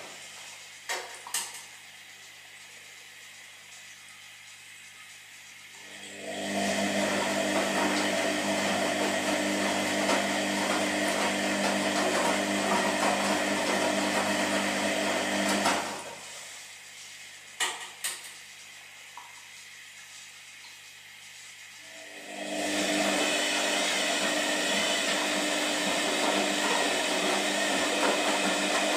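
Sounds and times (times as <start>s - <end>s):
washing machine running: 0.0s - 19.4s, 21.3s - 28.9s.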